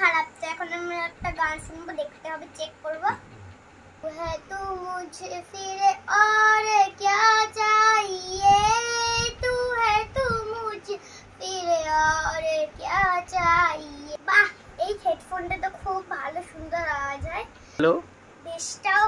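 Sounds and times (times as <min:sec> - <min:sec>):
girl singing unaccompanied: 0:00.0 - 0:03.2, 0:04.0 - 0:17.6, 0:18.4 - 0:19.0.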